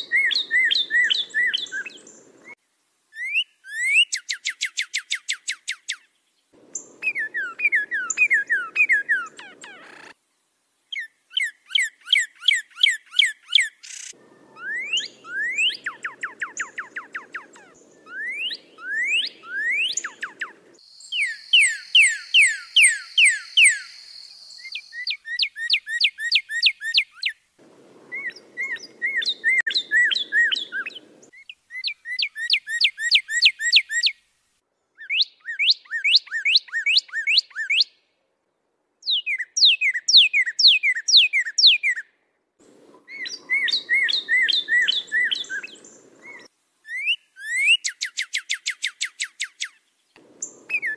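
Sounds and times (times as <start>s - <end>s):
songbird whistled chirps and trills: 0.0s - 2.6s, 3.2s - 6.1s, 6.7s - 10.1s, 10.9s - 27.4s, 28.0s - 34.2s, 35.0s - 38.0s, 39.0s - 42.1s, 42.8s - 50.9s
faint background hiss: 0.0s - 35.5s, 37.9s - 39.7s, 40.6s - 50.9s.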